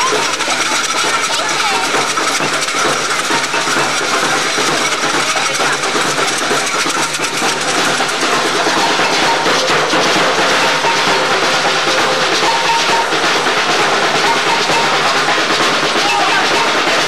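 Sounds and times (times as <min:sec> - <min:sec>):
samba percussion band: 0:00.0 - 0:17.0.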